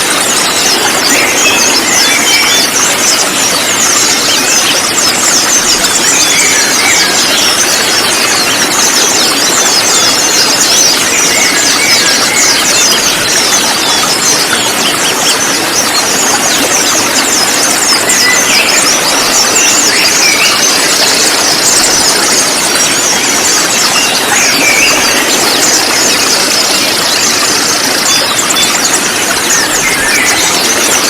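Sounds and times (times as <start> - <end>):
birds chirping and trilling: 0.0 - 31.0.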